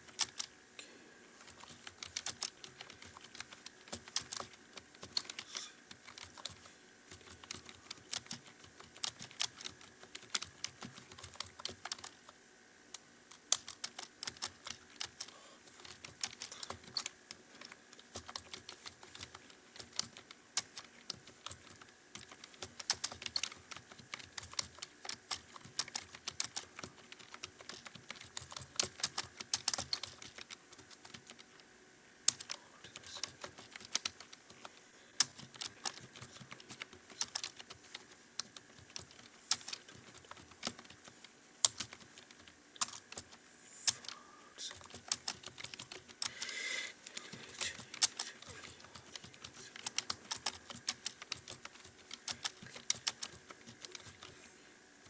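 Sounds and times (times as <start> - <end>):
fast typing on computer keyboard: 0.0 - 0.6, 1.4 - 54.4
faint steady hum: 0.0 - 55.0.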